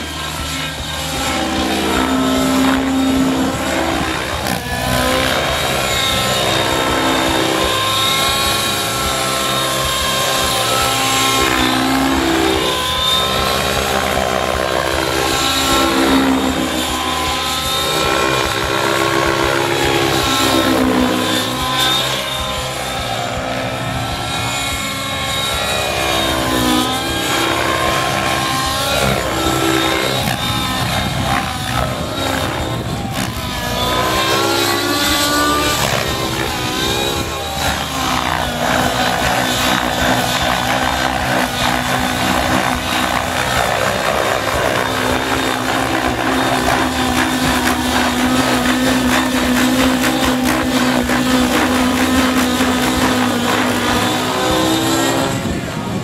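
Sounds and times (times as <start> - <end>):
model helicopter engine and rotor: 0.0 - 56.0.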